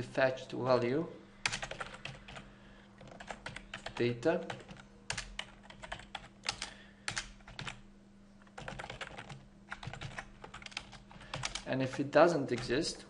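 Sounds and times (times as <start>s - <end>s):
typing on a computer keyboard: 1.4s - 7.8s, 8.5s - 12.7s.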